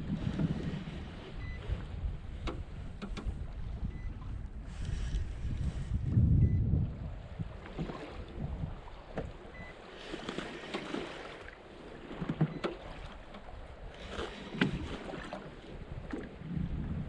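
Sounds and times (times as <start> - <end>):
wind buffeting microphone: 0.0 - 9.7, 12.1 - 17.0.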